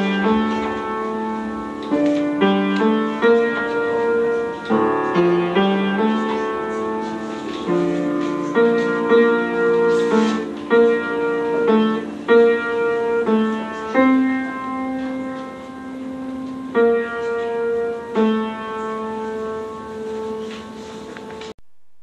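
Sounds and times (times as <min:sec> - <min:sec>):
slow piano chords: 0:00.0 - 0:21.6.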